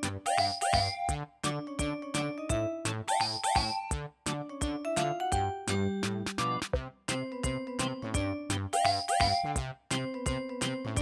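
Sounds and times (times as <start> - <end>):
bouncy children's music: 0.0 - 11.0.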